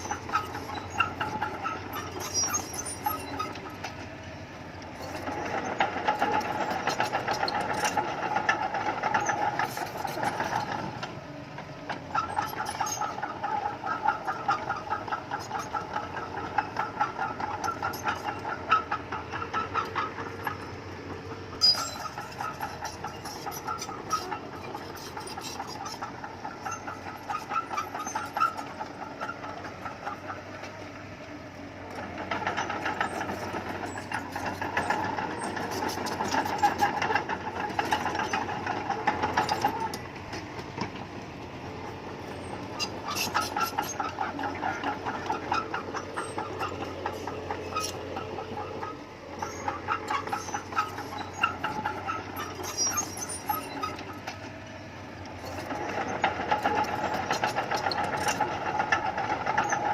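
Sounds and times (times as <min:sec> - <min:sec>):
crawler tracks clanking: 0:00.0 - 0:59.9
diesel engine: 0:00.0 - 0:59.9.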